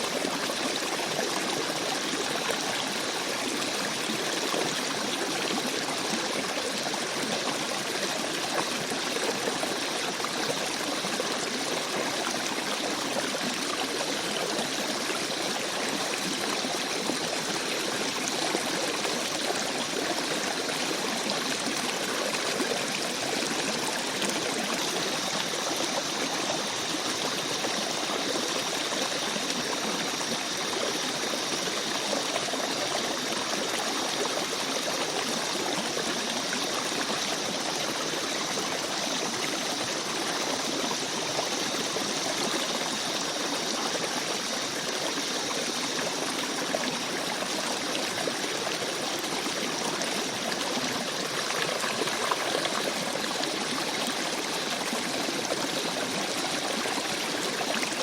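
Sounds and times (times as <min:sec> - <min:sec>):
forest stream babbling over rocks: 0:00.0 - 0:58.0.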